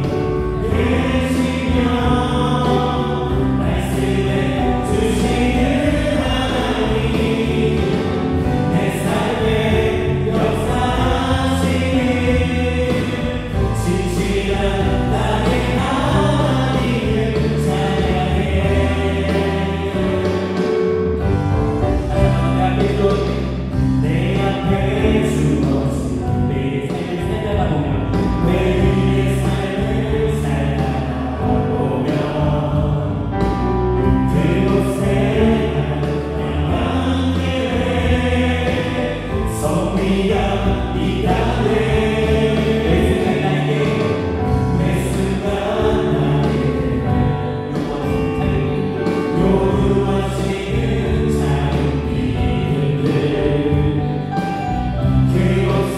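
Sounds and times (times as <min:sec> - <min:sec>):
band playing worship song: 0:00.0 - 0:55.9
group singing: 0:00.0 - 0:55.9.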